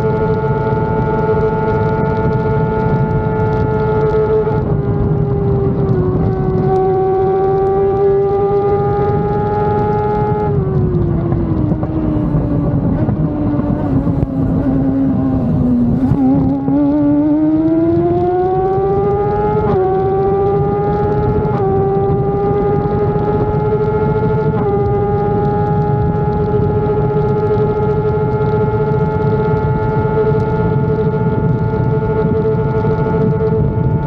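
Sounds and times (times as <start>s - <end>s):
race car engine at high revs: 0.0s - 34.0s
wind rumble on microphone: 0.0s - 34.0s.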